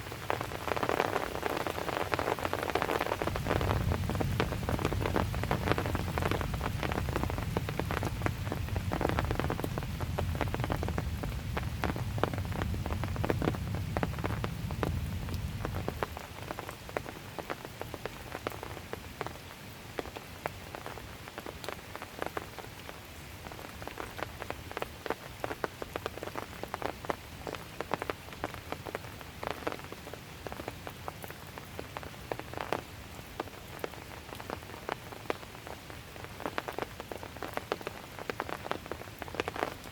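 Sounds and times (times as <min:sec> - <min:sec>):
raindrops striking surfaces: 0:00.0 - 0:39.9.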